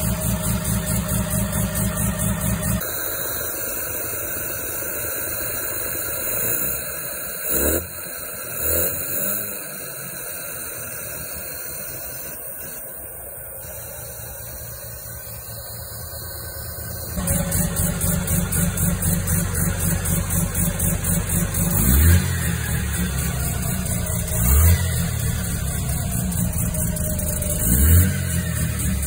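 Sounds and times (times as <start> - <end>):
engine throttle blips: 0.0 - 29.0
rotary engine idling: 0.0 - 29.0.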